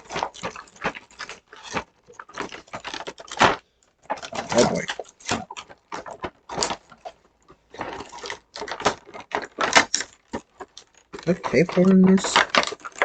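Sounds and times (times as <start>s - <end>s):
packaging clicking and knocking: 0.0s - 13.0s
packaging rustling: 0.0s - 13.0s.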